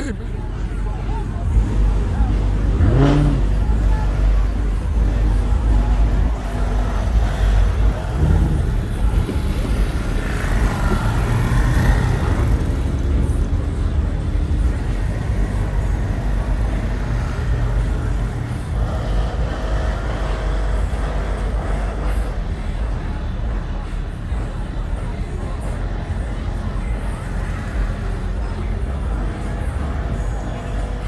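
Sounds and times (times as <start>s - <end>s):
car engines rumbling: 0.0s - 31.0s.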